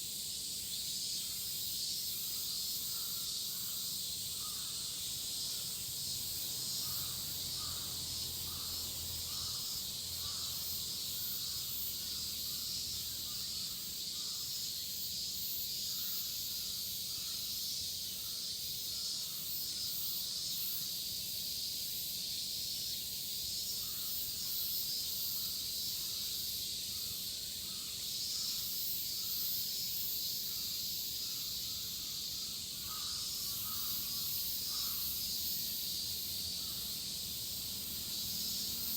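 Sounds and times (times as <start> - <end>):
cicada chorus shrill drone: 0.0 - 38.9.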